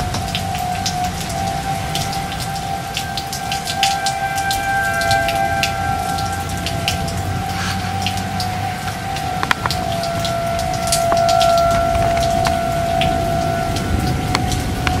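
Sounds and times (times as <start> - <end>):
rain drops falling: 0.0 - 15.0.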